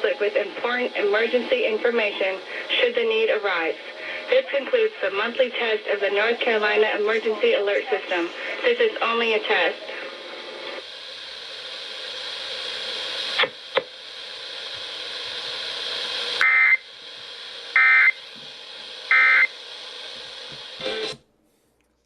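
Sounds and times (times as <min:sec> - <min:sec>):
radio hiss: 0:00.0 - 0:21.2.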